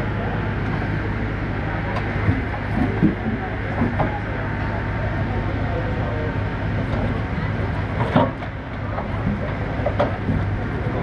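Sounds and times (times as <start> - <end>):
heavy equipment engine running: 0.0 - 11.0.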